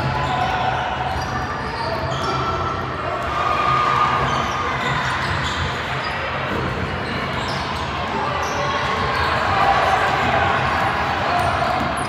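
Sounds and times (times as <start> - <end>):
echoing indistinct voices: 0.0 - 12.0.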